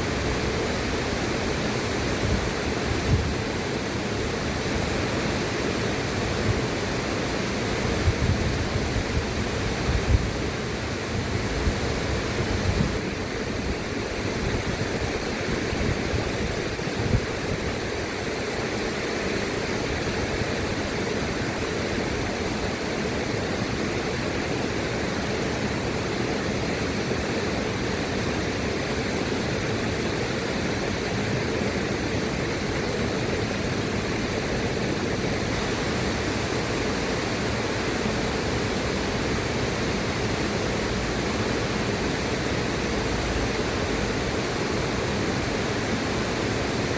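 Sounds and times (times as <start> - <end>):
river water rushing: 0.0 - 46.9.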